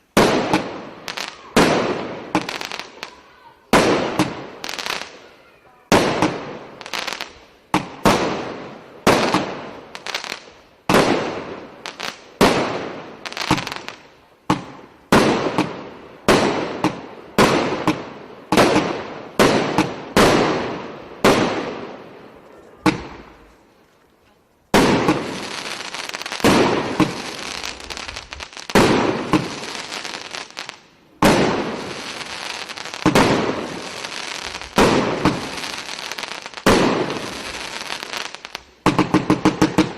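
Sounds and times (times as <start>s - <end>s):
firework bangs: 0.0s - 23.5s, 24.7s - 39.9s
firework crackling: 0.0s - 23.8s, 24.7s - 39.9s.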